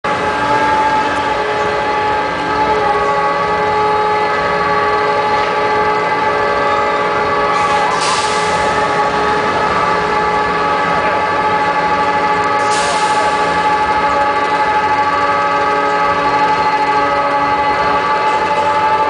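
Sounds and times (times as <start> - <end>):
roller coaster chain lift whine: 0.1 - 19.0.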